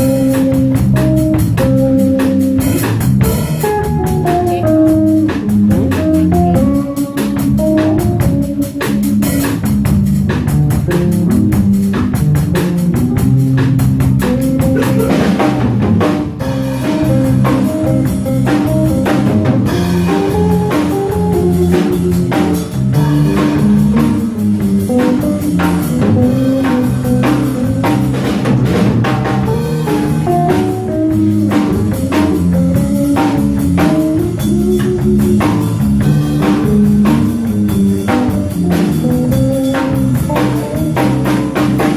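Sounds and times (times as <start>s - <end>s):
jazz combo playing: 0.0s - 41.9s.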